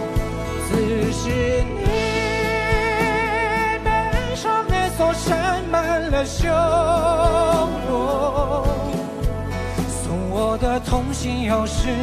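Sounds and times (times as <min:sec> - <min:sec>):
band accompaniment: 0:00.0 - 0:12.0
low drum beats: 0:00.0 - 0:12.0
man singing with vibrato: 0:00.1 - 0:12.0.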